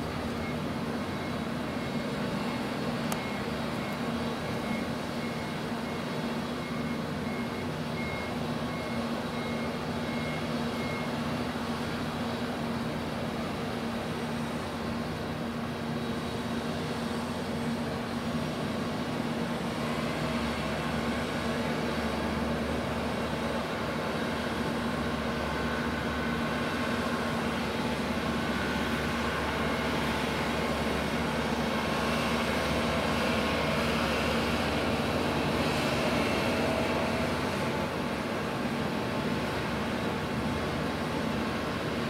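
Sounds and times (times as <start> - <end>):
broad wash of noise: 0.0 - 42.0
ship diesel machinery droning: 0.0 - 42.0.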